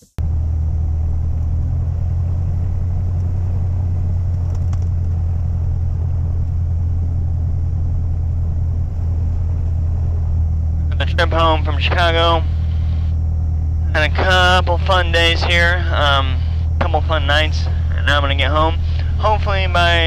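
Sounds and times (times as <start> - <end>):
propeller plane engine drone: 0.1 - 20.0.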